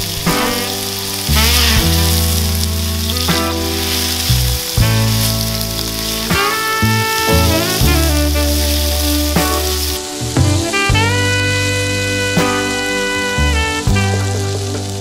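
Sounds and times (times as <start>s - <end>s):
background music with bass: 0.0s - 15.0s
potatoes sizzling in a pan: 0.0s - 15.0s.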